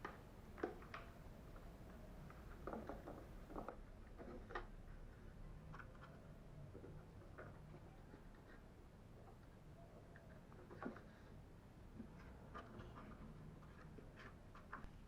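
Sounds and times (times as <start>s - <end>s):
faint clicks and taps: 0.0s - 15.0s.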